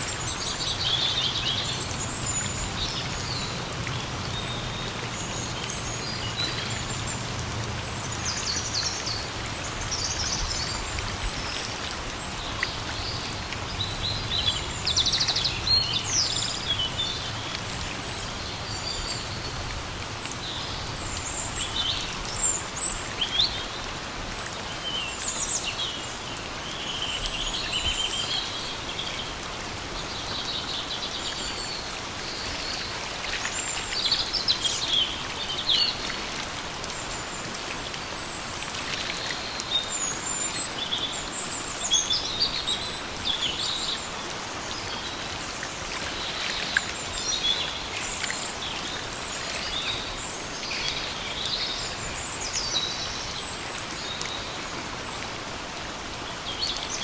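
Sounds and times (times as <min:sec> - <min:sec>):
rain falling in a forest: 0:00.0 - 0:57.0.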